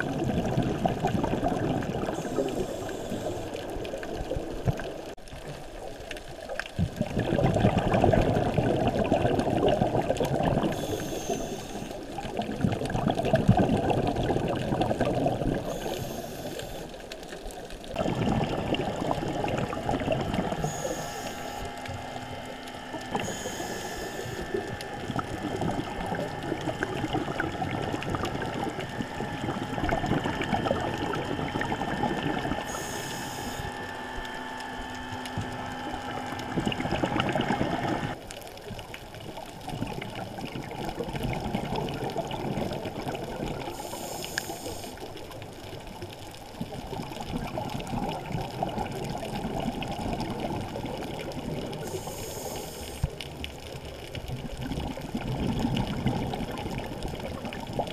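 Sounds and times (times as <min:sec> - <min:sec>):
underwater bubbling and crackling: 0:00.0 - 0:57.9.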